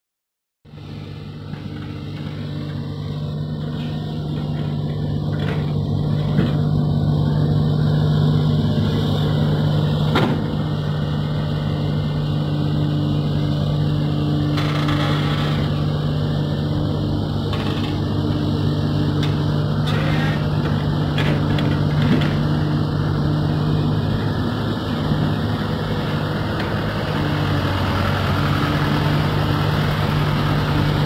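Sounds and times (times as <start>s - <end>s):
excavator diesel engine: 0.7s - 31.0s.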